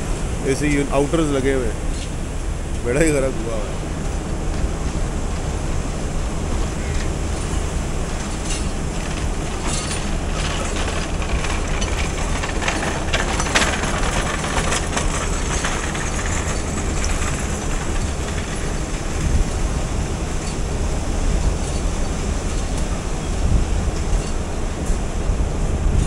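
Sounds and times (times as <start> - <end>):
train low rumble: 0.0 - 26.0
wheels clacking over rail joints: 0.0 - 26.0.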